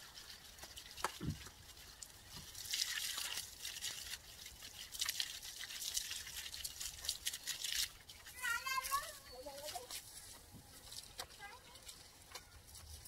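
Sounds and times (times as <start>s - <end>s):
hose water spattering on plants: 0.0s - 13.0s.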